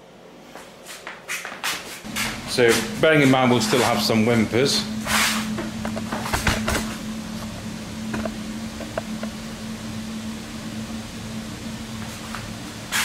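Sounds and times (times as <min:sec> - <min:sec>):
organ blower humming: 0:02.1 - 0:13.0.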